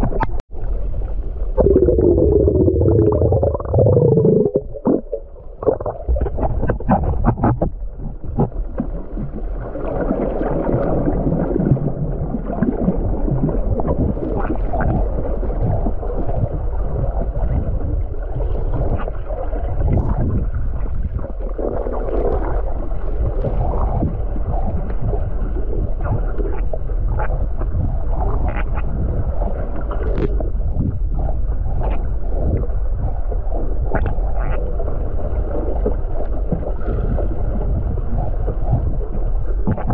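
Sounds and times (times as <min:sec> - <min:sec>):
low underwater rumble: 0:00.0 - 0:39.9.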